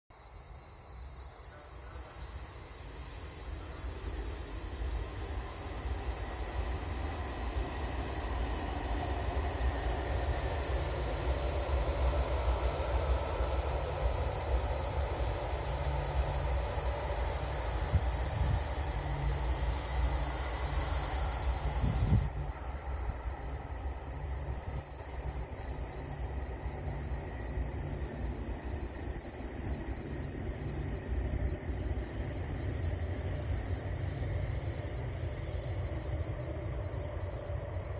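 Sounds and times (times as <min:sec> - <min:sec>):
insects droning: 0:00.1 - 0:37.9
train wheels rumbling on rails: 0:01.1 - 0:37.9.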